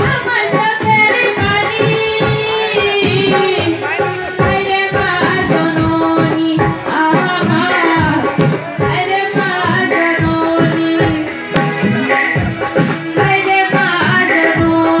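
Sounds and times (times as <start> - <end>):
percussion beat: 0.0 - 15.0
woman singing into microphone: 0.0 - 15.0.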